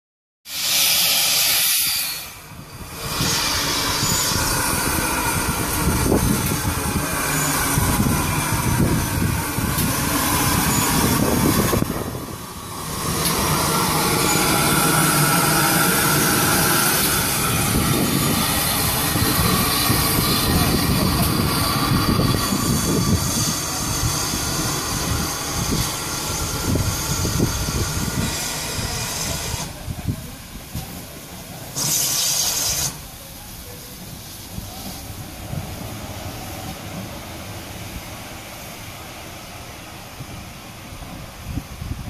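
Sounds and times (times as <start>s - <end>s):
steam locomotive hissing steam: 0.5s - 42.0s.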